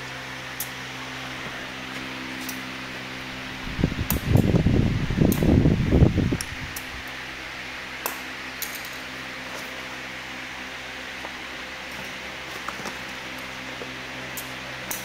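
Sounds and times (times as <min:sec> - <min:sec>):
low rumble and rustle of packaging: 0:00.0 - 0:15.0
machine hum: 0:00.0 - 0:15.0.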